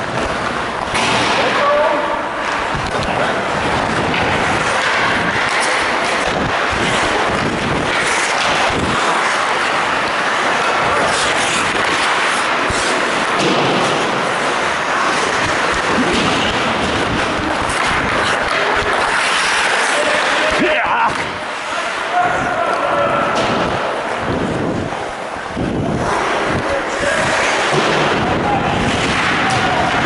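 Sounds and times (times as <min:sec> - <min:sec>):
skates rushing on ice: 0:00.0 - 0:30.0
sticks and puck clacking: 0:00.0 - 0:30.0.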